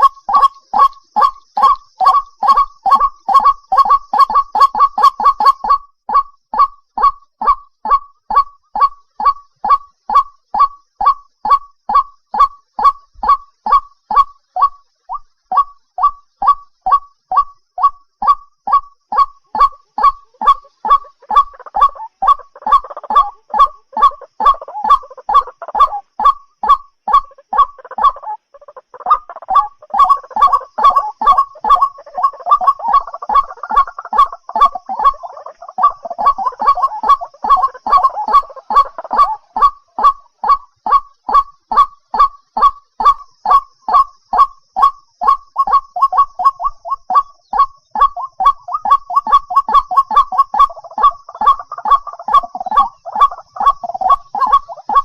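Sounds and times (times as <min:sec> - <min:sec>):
bird calling short repeated notes: 0:00.0 - 0:55.0
overlapping bird chatter: 0:00.0 - 0:55.0.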